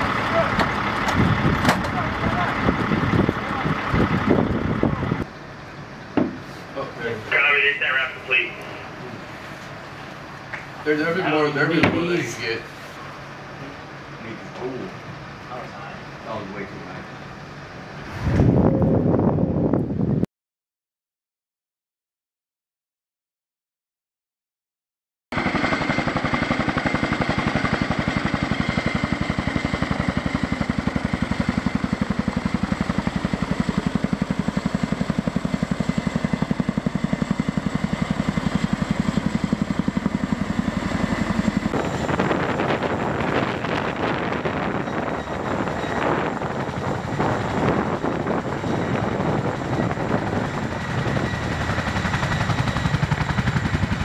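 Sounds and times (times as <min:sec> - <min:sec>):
helicopter rotors beating: 0:00.0 - 0:20.2, 0:25.3 - 0:54.0.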